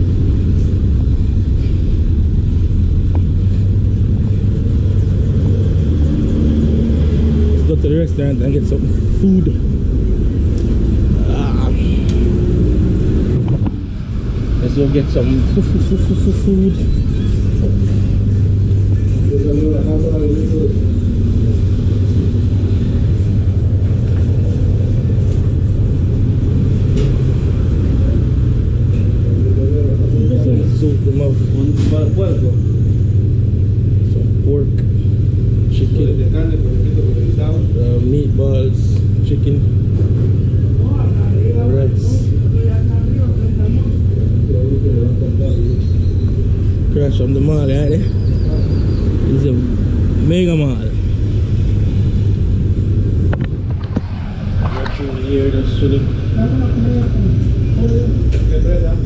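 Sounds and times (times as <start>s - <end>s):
low rumble of street noise: 0.0s - 59.0s.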